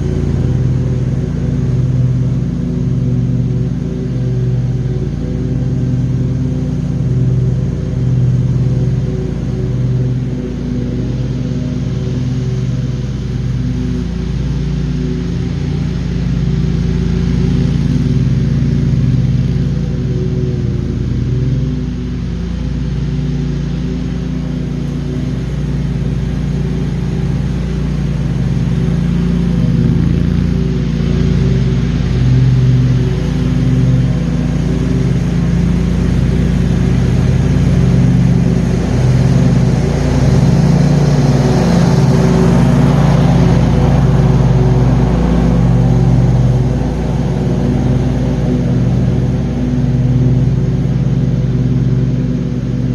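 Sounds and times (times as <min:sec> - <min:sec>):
mower engine drone: 0:00.0 - 0:52.9.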